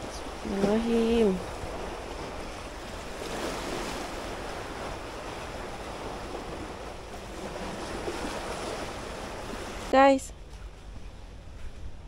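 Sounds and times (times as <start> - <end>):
sea waves washing against shore: 0.0 - 12.0
wind buffeting the microphone: 0.0 - 12.0.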